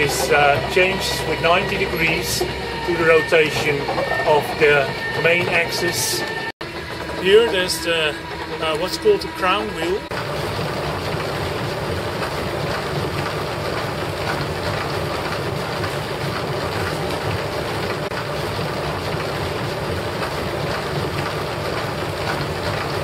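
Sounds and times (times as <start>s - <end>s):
wooden windmill gears clattering: 0.0s - 23.0s.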